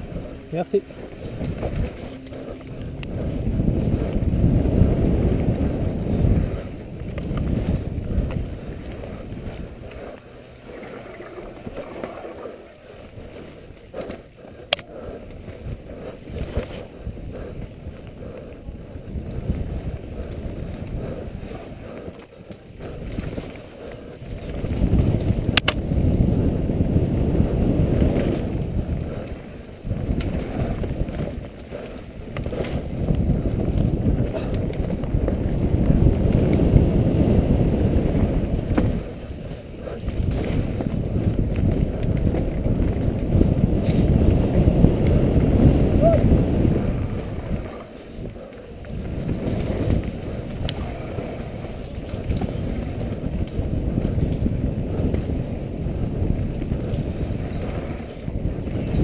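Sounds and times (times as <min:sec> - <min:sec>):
bike tyres rumbling on dirt: 0:00.0 - 0:59.0
wind buffeting microphone: 0:00.0 - 0:59.0.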